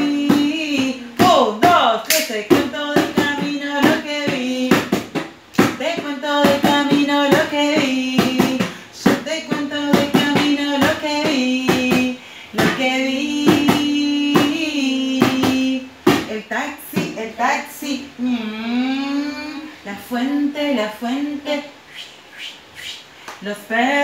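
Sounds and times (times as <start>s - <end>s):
woman and girl singing: 0.0s - 22.1s, 23.4s - 24.0s.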